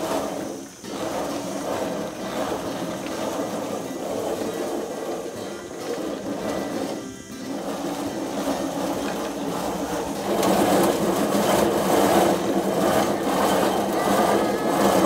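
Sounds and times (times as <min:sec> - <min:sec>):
grape crusher running: 0:00.0 - 0:15.0.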